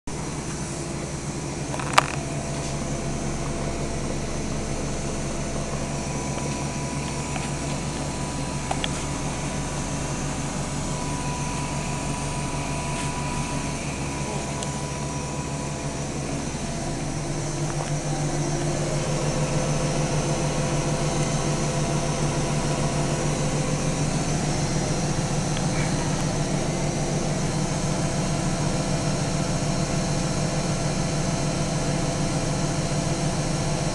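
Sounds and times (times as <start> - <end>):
washing machine humming: 0.1 - 33.9.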